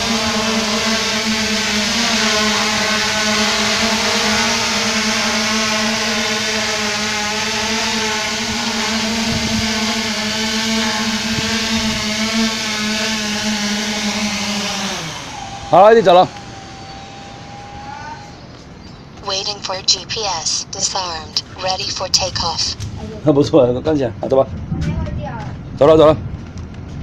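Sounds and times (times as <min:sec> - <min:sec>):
drone propellers buzzing: 0:00.0 - 0:23.1.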